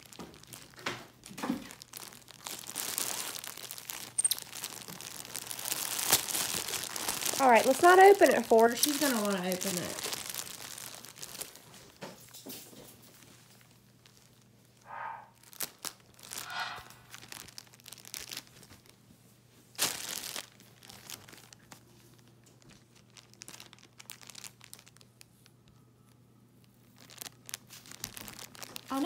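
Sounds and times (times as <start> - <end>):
plastic bag crinkling: 0.0 - 19.1, 19.7 - 25.8, 26.6 - 29.0.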